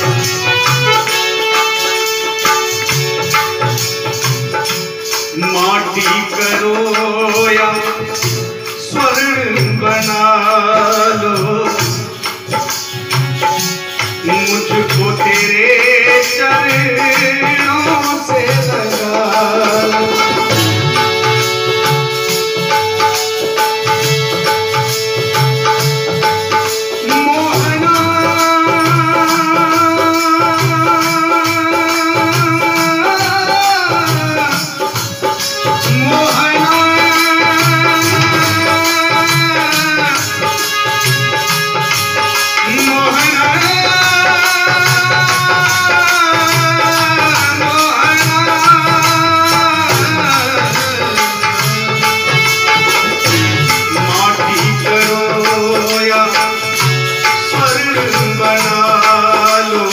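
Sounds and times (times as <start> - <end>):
jingling percussion: 0.0 - 59.9
naal drum rhythm: 0.0 - 59.9.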